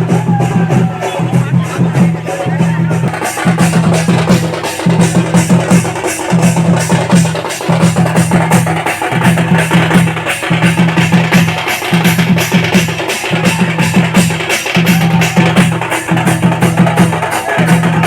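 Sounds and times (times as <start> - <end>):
loud music with fast drumbeat: 0.0 - 18.0.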